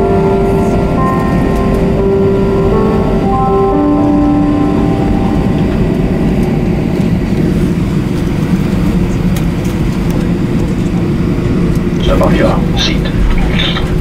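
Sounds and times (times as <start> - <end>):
aircraft cabin rumble and hum: 0.0 - 14.0.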